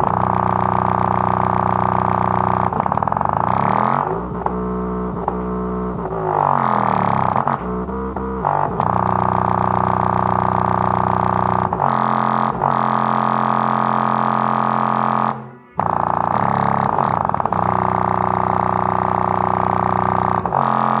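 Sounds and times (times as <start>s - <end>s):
buzzing subwoofer bass drone: 0.0s - 21.0s.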